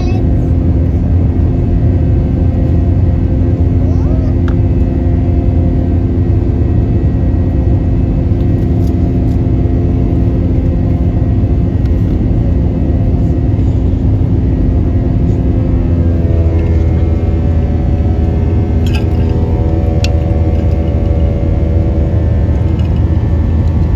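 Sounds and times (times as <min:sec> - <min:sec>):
jet engines at takeoff: 0:00.0 - 0:23.9
steady cabin hum: 0:00.0 - 0:23.9.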